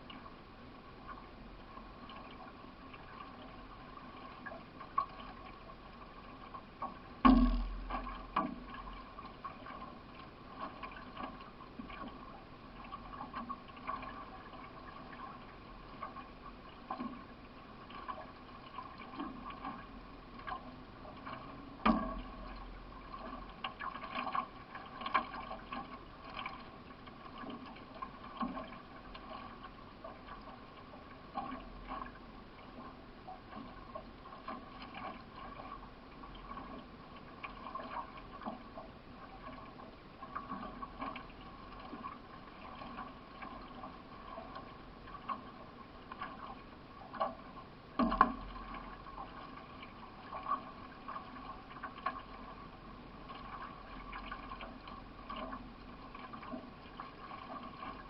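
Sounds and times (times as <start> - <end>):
paddle splashing in water: 1.0 - 58.0.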